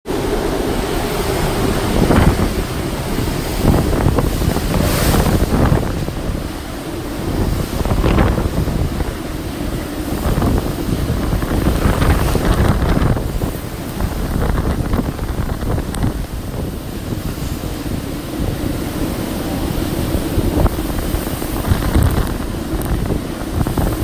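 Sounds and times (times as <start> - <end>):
wind gusts buffeting microphone: 0.1 - 24.0.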